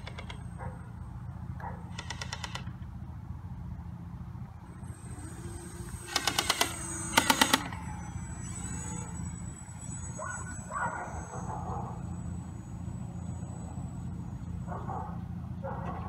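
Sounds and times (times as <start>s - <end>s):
model plane motors droning: 0.0s - 2.9s, 3.7s - 16.0s.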